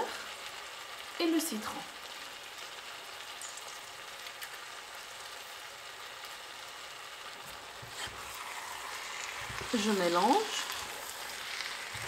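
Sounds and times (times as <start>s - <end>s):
faint crackles: 0.0s - 12.0s
food sizzling in a wok: 0.0s - 12.0s.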